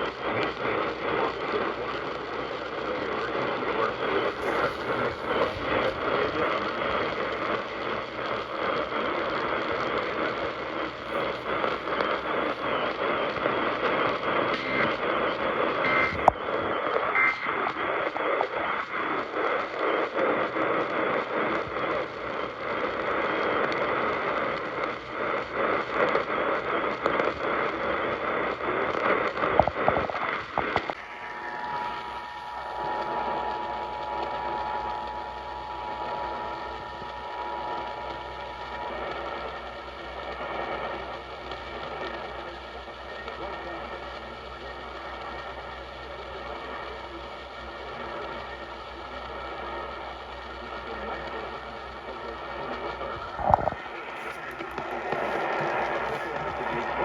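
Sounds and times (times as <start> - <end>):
radio static: 0.0 - 57.0.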